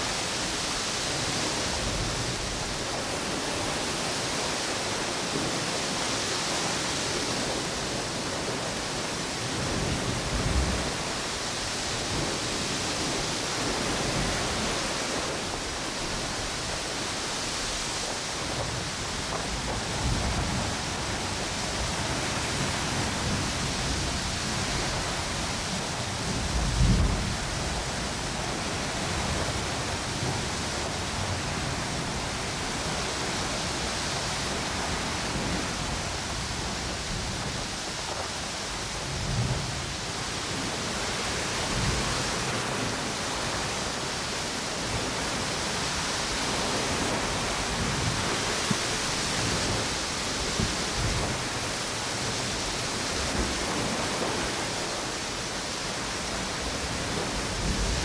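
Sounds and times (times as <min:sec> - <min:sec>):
low rumbling wind gusts: 0:00.0 - 0:58.0
ocean waves: 0:00.0 - 0:58.0
wind hissing through palm trees: 0:00.0 - 0:58.0.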